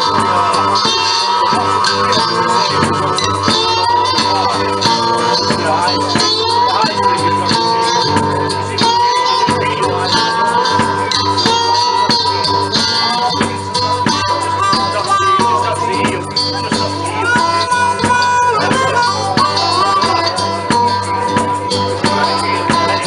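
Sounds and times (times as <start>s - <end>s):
blues band playing: 0.0s - 23.0s.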